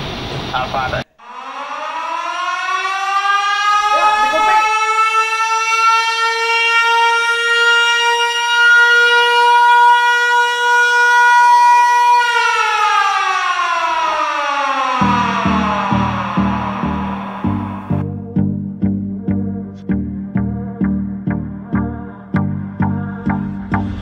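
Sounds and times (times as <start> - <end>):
alarm siren winding down: 1.2 - 24.0.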